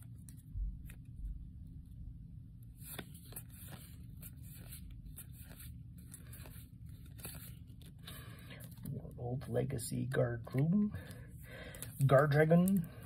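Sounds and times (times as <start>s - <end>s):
trading cards rustling and scraping: 0.0s - 2.0s, 2.6s - 9.2s, 10.5s - 13.0s.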